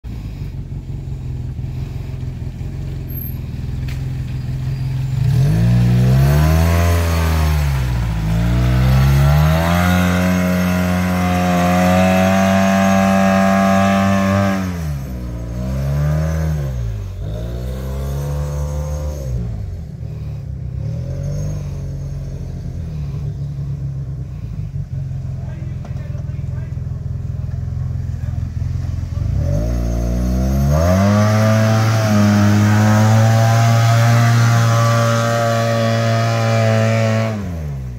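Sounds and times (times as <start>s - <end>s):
engine revving: 4.7s - 37.9s.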